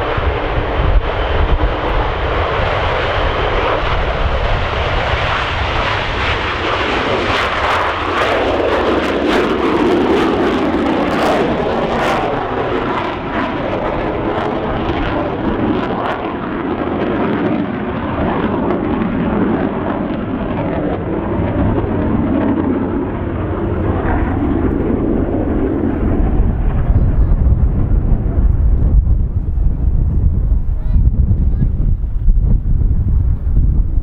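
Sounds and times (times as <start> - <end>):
wind rumble on microphone: 0.0 - 16.3, 17.3 - 34.0
jet engines roaring: 0.0 - 34.0.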